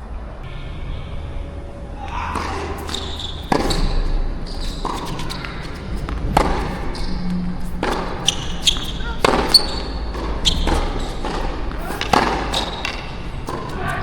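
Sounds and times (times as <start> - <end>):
ball bouncing on court: 2.1 - 14.0
tennis ball hit by racket: 2.3 - 14.0.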